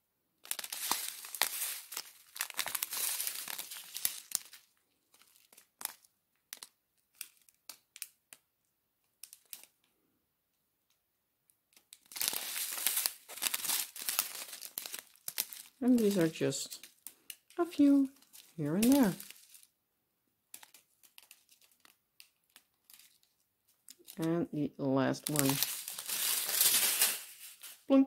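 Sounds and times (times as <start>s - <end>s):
plastic bags crinkling: 0.4s - 8.4s, 9.2s - 9.8s, 11.7s - 19.7s, 20.5s - 24.4s, 25.0s - 28.0s.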